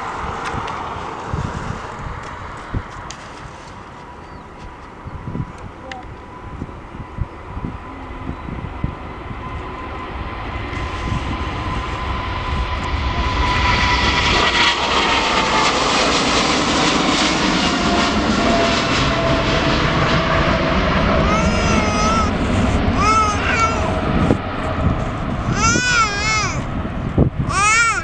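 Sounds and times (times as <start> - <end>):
jet airliner engines roaring: 0.0 - 28.0.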